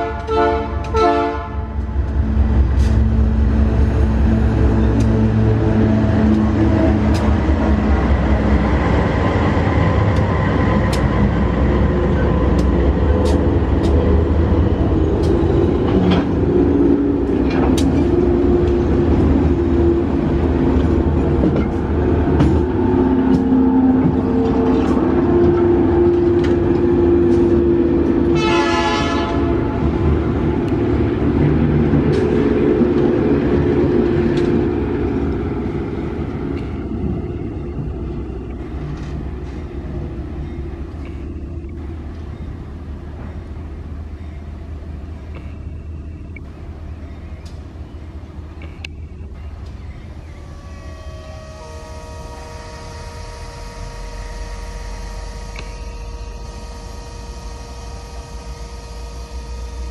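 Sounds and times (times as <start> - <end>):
locomotive engine drone: 0.0 - 59.9.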